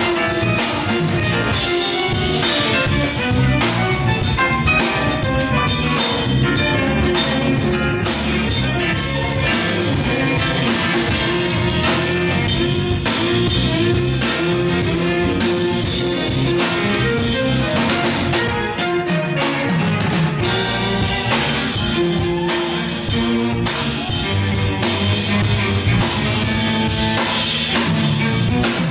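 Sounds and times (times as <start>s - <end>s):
live band playing: 0.0s - 28.9s.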